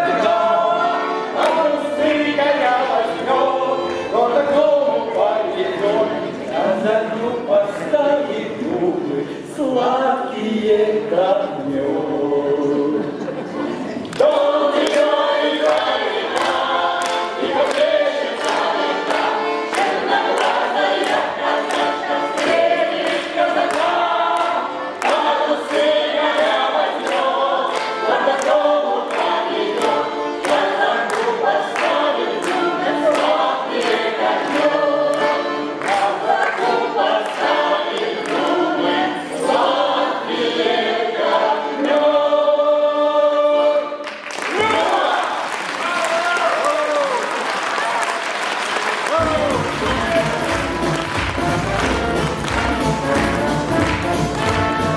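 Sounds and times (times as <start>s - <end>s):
choir singing folk song: 0.0s - 45.4s, 49.1s - 54.9s.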